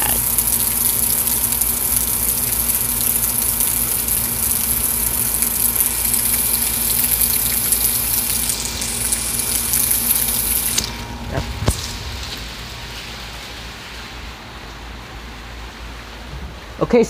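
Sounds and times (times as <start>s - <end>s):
water gushing and splashing: 0.0s - 14.2s
heavy rain pouring: 0.0s - 16.2s.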